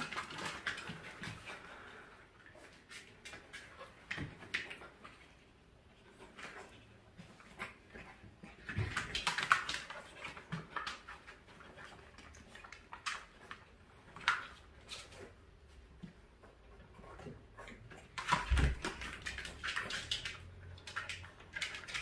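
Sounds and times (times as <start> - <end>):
paws and claws scrabbling: 0.0 - 22.0.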